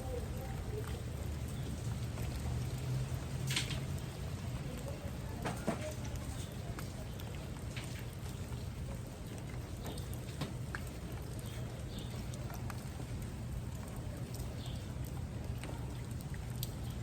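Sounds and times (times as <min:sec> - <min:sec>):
steady rain falling: 0:00.0 - 0:17.0
drips and taps: 0:00.3 - 0:17.0.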